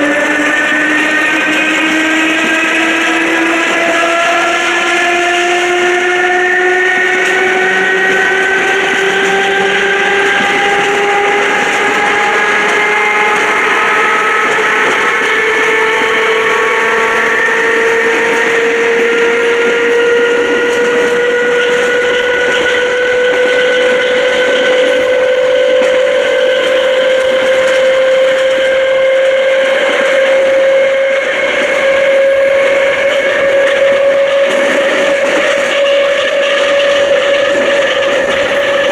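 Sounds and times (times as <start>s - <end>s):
electric train motors growling: 0.0s - 38.9s
rumble of moving train: 0.0s - 38.9s.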